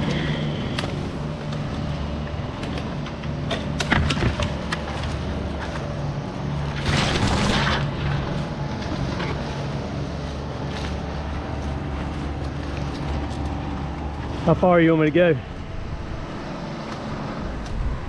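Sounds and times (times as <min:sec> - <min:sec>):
large engine running: 0:00.0 - 0:18.0.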